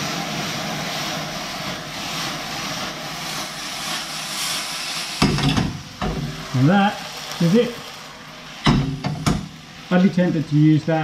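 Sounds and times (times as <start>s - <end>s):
fish sizzling in frying pan: 0.0s - 11.0s.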